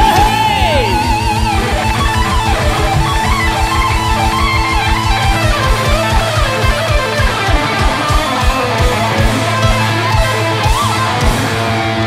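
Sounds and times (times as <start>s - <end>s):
rapid bass drum pulse: 0.0s - 11.6s
electric guitars: 0.0s - 12.0s
lead guitar bending pitch: 0.0s - 12.0s.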